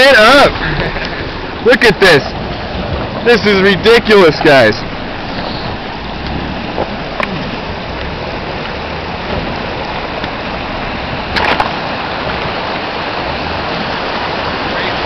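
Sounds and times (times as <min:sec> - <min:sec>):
river water rushing over rocks: 0:00.0 - 0:15.0
vehicle rumbling through stream: 0:00.0 - 0:15.0.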